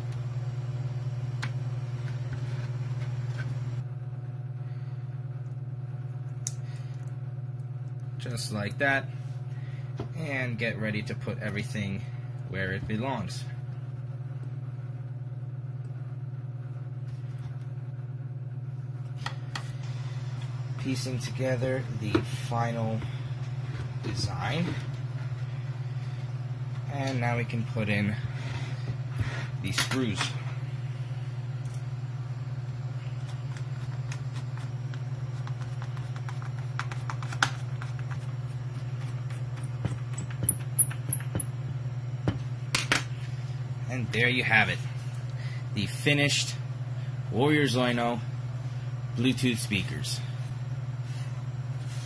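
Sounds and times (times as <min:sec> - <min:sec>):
steady low pulsing hum: 0:00.0 - 0:52.0.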